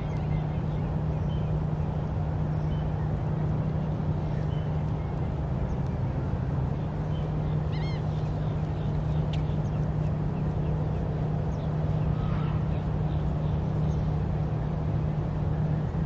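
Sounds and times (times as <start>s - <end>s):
distant engine hum: 0.0s - 16.0s
outdoor noise: 0.0s - 16.0s.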